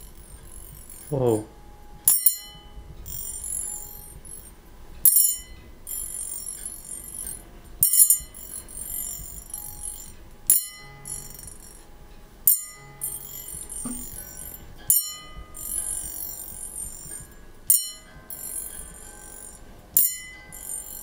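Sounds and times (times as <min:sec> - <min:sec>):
tuning fork ringing: 0:00.0 - 0:21.0.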